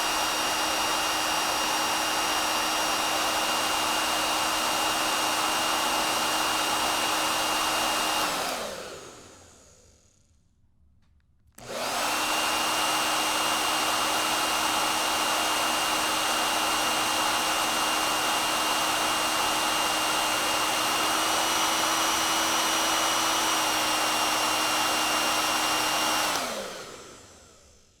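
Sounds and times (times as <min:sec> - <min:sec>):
hair dryer blowing: 0:00.0 - 0:10.3, 0:11.6 - 0:28.0.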